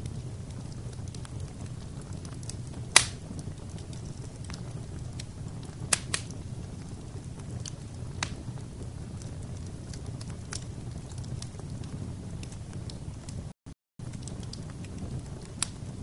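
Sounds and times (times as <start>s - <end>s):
fire crackling: 0.0s - 16.0s
fire rumbling: 0.0s - 16.0s.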